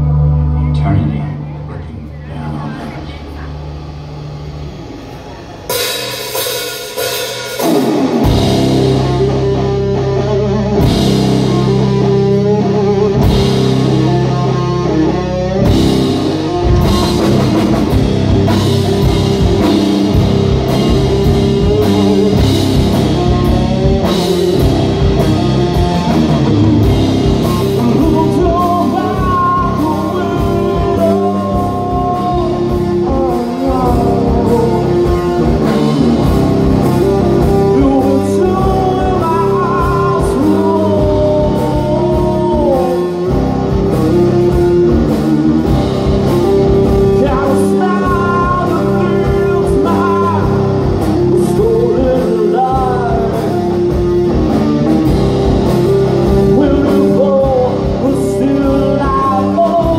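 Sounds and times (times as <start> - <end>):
bass guitar: 0.0 - 59.9
electric guitar: 0.0 - 59.9
drum kit: 2.2 - 59.9.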